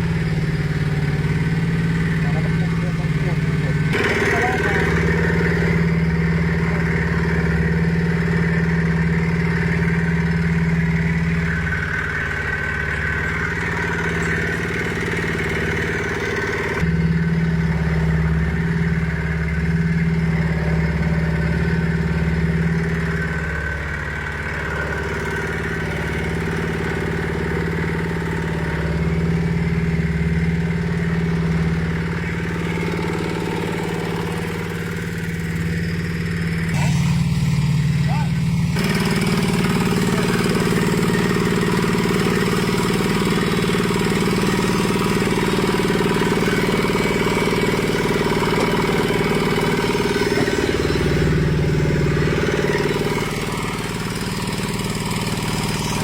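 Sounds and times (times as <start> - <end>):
feed mixer engine running: 0.0 - 56.0.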